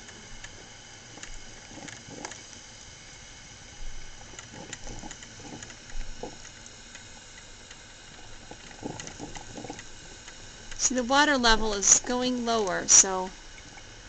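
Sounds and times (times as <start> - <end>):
coffee maker gurgling and popping: 0.0 - 14.0.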